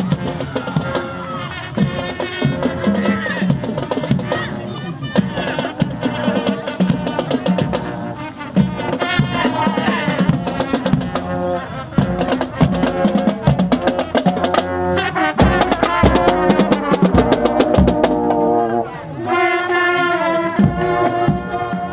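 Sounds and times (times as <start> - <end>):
marching drums beat: 0.0 - 18.7, 20.4 - 21.9
brass playing a tune: 0.0 - 21.9.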